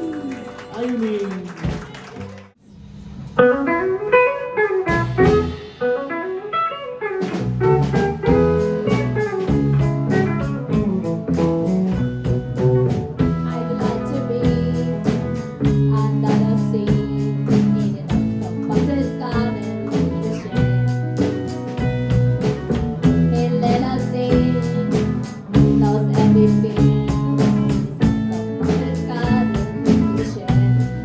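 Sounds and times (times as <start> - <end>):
guitar picked melody: 3.4 - 31.0
live rock band playing: 3.4 - 31.0.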